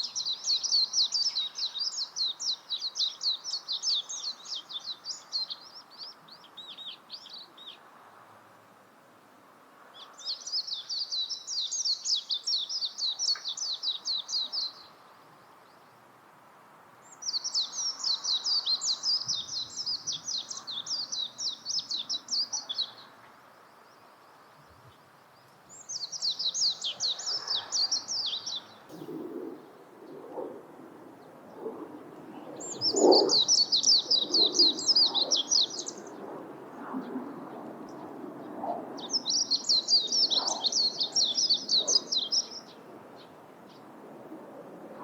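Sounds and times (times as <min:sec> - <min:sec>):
bird high twittering song: 0:00.0 - 0:07.8, 0:10.0 - 0:15.0, 0:17.0 - 0:30.4, 0:31.2 - 0:43.9.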